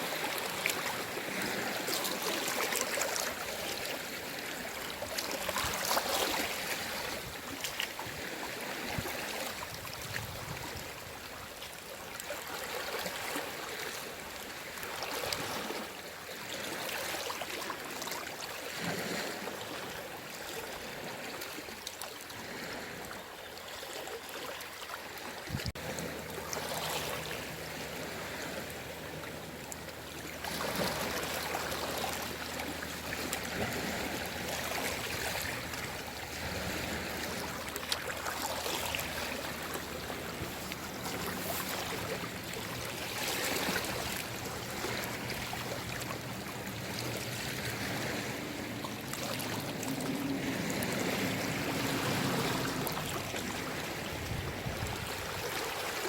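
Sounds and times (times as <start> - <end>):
gentle sea waves washing: 0.0 - 56.0.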